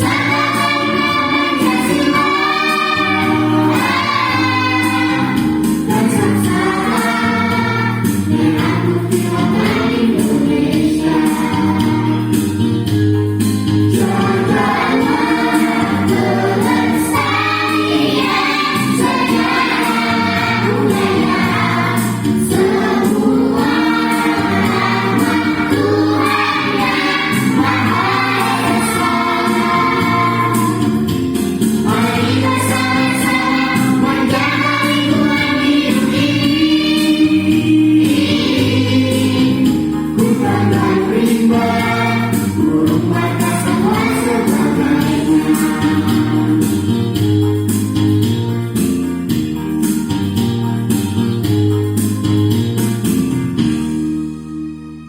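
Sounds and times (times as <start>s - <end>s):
choir singing with instruments: 0.0s - 47.8s.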